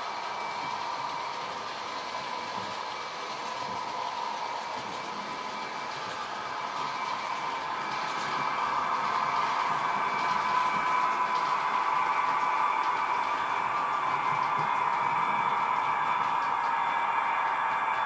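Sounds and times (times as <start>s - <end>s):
model train motor hum: 0.0s - 18.0s
train wheels on track: 0.0s - 18.0s.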